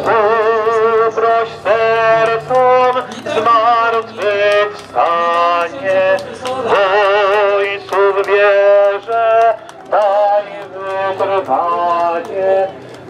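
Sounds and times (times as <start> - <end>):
person singing slow melody: 0.0 - 13.0.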